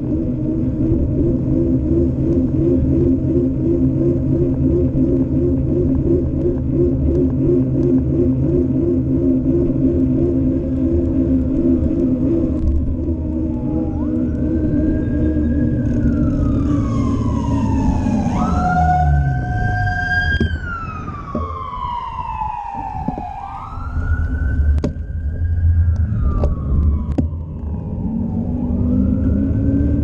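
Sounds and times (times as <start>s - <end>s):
siren wailing: 0.0s - 30.0s
wind and road noise: 0.0s - 30.0s.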